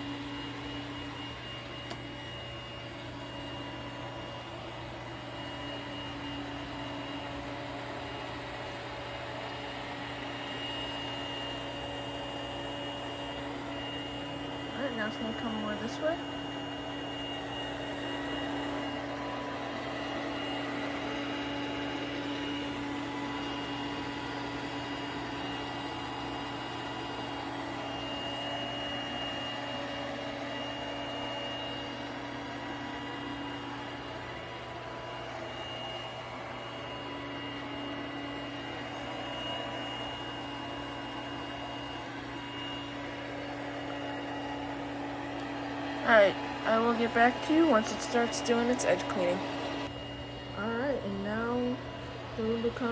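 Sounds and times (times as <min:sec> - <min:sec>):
robot vacuum motor hum and whine: 0:00.0 - 0:52.9.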